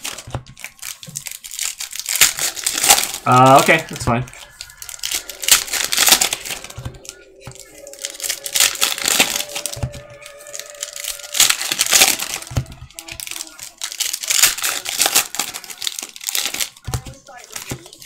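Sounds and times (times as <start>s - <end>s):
foil wrappers crinkling and tearing: 0.0s - 18.0s.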